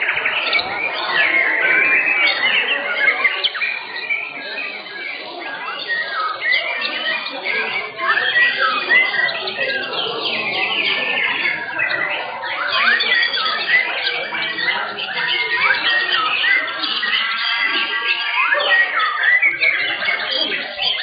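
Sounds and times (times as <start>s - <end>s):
birds singing: 0.0s - 21.0s.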